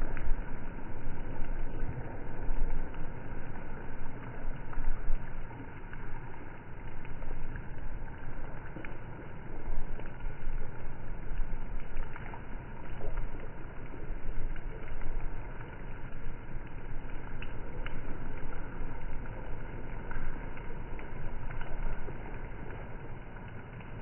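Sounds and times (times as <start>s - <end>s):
rain on wet road: 0.0s - 24.0s.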